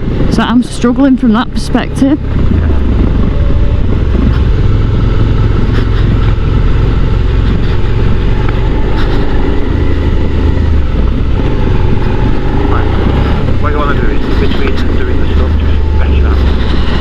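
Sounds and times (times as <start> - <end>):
motorcycle riding slowly: 0.0 - 17.0.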